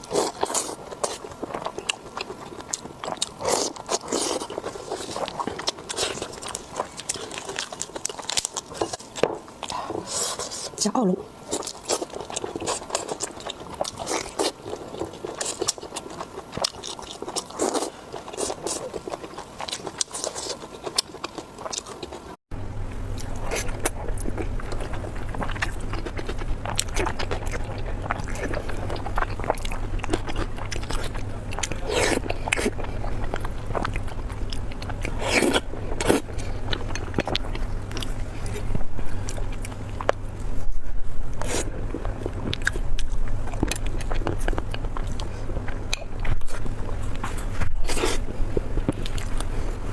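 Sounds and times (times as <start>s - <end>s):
person chewing food: 0.0s - 10.8s, 11.4s - 22.4s, 23.1s - 49.9s
steady low hum: 0.0s - 49.9s.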